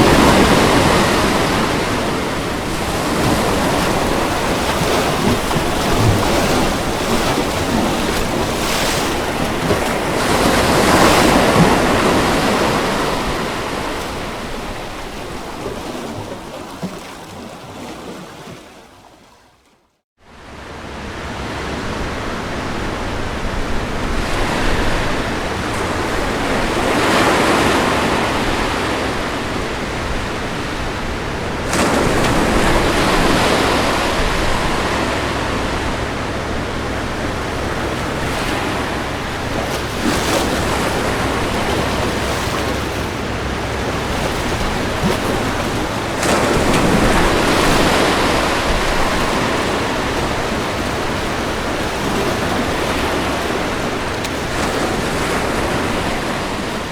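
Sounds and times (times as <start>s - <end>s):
ocean waves crashing on beach: 0.0s - 19.1s, 20.2s - 56.9s.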